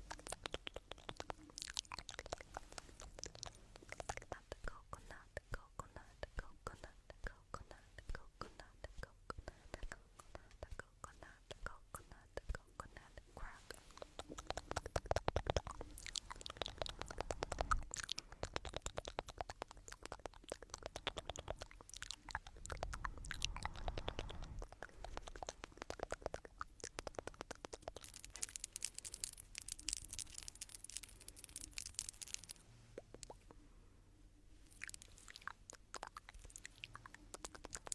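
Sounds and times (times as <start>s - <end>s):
crackling scratches and clicks: 0.0s - 33.6s, 34.7s - 37.9s.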